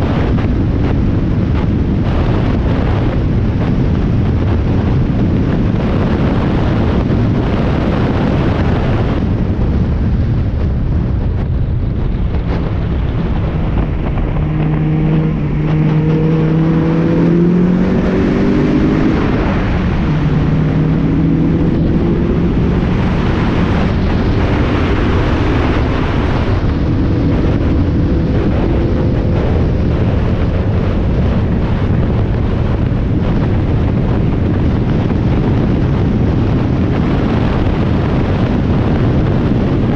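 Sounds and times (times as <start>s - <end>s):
race car engine at full throttle: 0.0s - 39.9s
wind buffeting microphone: 0.0s - 39.9s.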